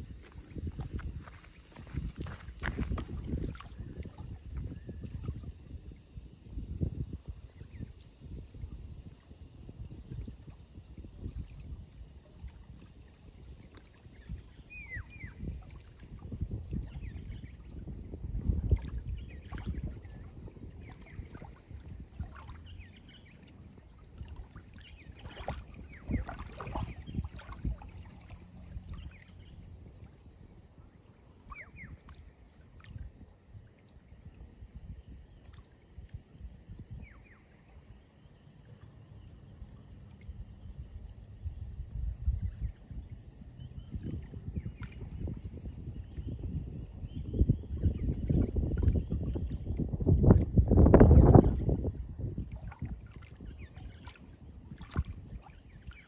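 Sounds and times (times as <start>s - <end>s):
water lapping at shore: 0.0s - 6.0s, 8.0s - 41.2s, 47.8s - 56.0s
wind buffeting microphone: 0.0s - 32.0s, 40.4s - 56.0s.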